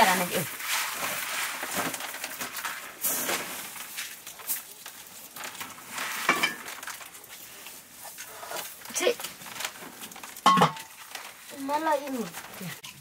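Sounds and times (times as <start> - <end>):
maize kernels rustling and clicking: 0.0 - 13.0.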